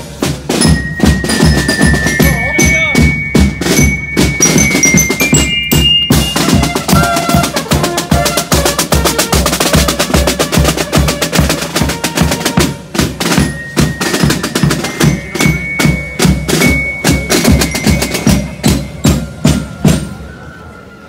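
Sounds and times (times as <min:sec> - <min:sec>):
bass drum beat: 0:00.0 - 0:19.2
snare drum rolls: 0:00.0 - 0:20.2.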